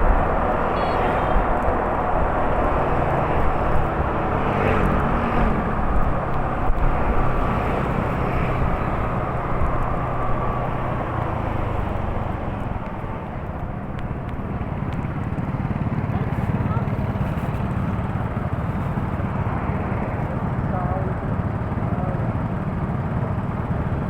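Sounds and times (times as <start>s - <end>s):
engine-like drone: 0.0s - 24.0s.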